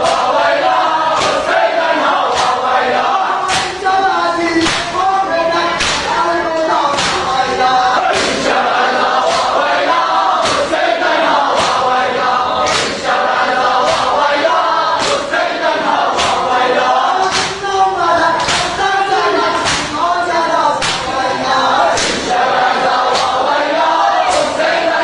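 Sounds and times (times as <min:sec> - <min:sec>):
men chanting a lament: 0:00.0 - 0:25.0
rhythmic chest-beating slaps: 0:00.0 - 0:25.0.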